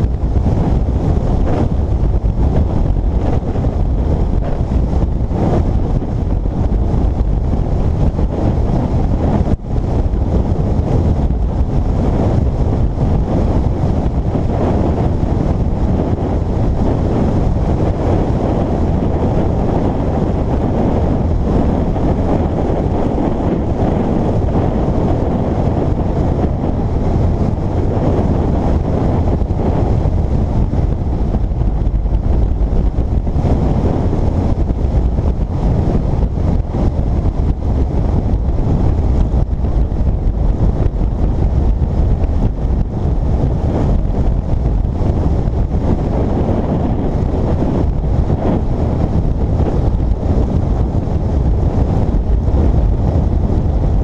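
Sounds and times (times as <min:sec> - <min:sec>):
motorcycle running noise: 0:00.0 - 0:54.0
wind rush on microphone: 0:00.0 - 0:54.0.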